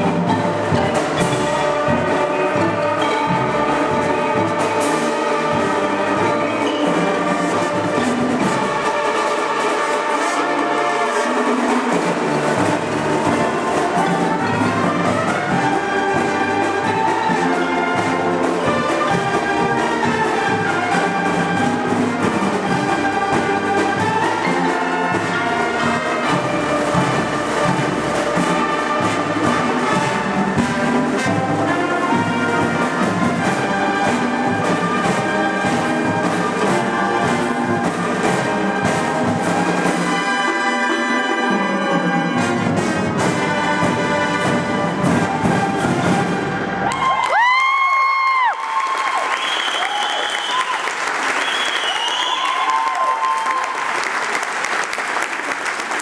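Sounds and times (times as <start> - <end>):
trumpets and trombones: 0.0 - 47.5
drum strokes: 0.0 - 48.4
marching band playing: 0.0 - 56.0.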